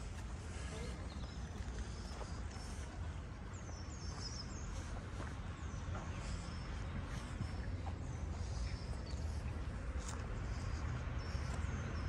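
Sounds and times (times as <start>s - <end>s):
birds chirping: 0.0s - 12.0s
low town hum: 0.0s - 12.0s.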